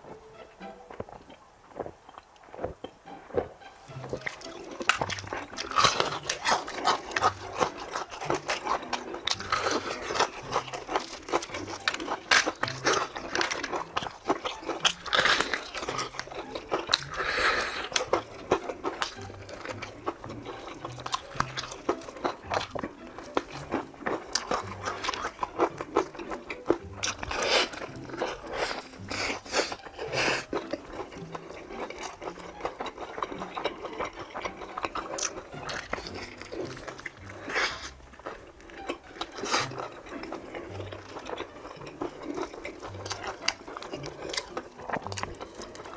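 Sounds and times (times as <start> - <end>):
crunching fried chicken: 0.0 - 45.9
faint background music: 0.0 - 45.9.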